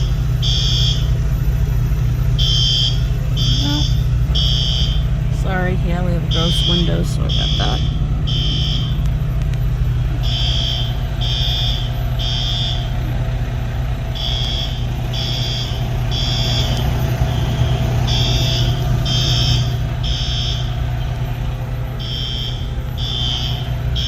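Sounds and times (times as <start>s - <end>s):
fire alarm beeps: 0.0s - 9.3s, 10.0s - 13.0s, 14.1s - 21.4s, 22.0s - 24.0s
low engine rumble: 0.0s - 24.0s.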